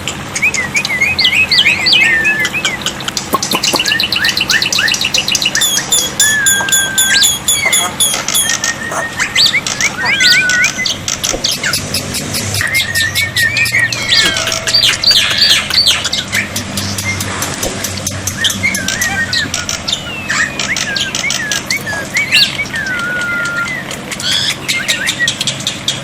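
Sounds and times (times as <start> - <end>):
bird singing varied whistles: 0.4 - 2.9, 3.7 - 17.3, 18.1 - 26.0.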